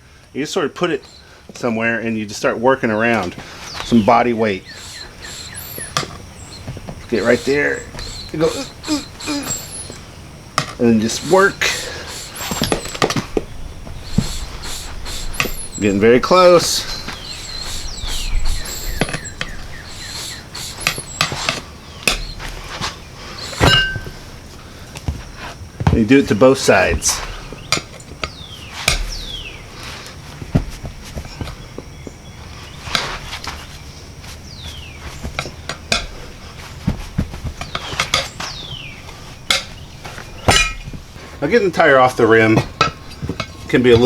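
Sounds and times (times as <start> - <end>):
rubber tire squeaking: 2.4 - 44.0.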